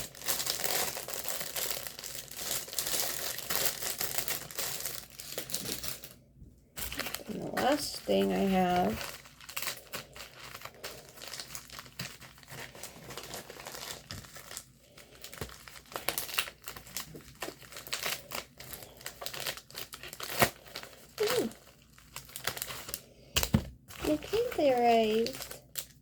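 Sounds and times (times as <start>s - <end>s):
packaging crinkling and rustling: 0.0s - 6.2s, 6.8s - 26.0s
packaging tearing: 0.0s - 6.2s, 6.8s - 26.0s.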